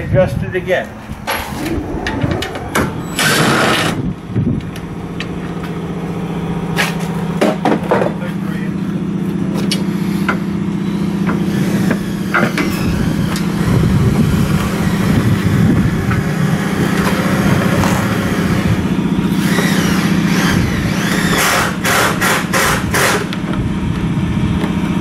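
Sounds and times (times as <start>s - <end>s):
engine idling: 0.8s - 21.2s.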